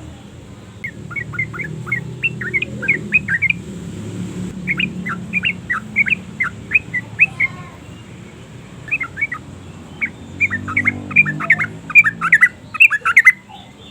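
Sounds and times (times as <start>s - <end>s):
bird chirping: 0.7s - 13.9s.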